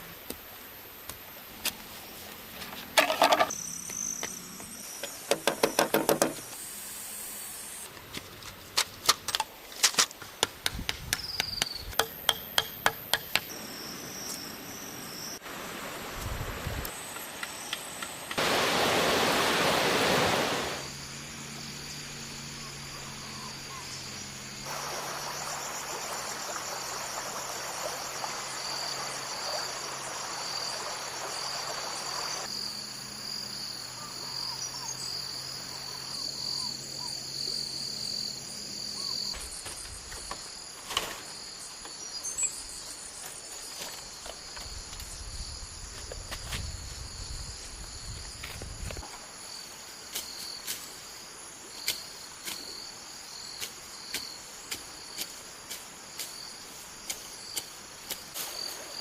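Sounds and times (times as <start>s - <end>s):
insects trilling: 3.0s - 7.9s, 11.2s - 16.0s, 20.4s - 59.0s.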